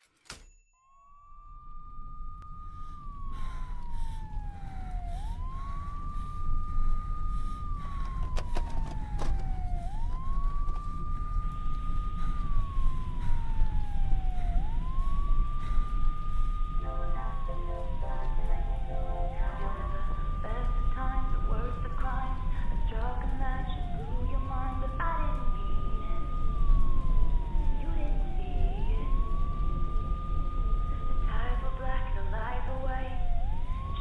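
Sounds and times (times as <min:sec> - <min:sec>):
low rumble: 0:01.3 - 0:34.0
police siren wailing: 0:01.4 - 0:34.0.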